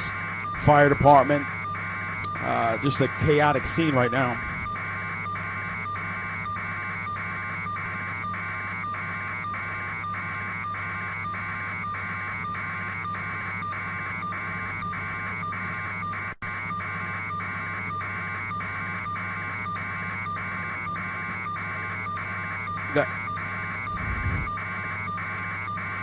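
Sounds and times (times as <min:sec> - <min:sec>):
pulsing electronic noise: 0:00.0 - 0:26.0
steady hum: 0:00.0 - 0:26.0.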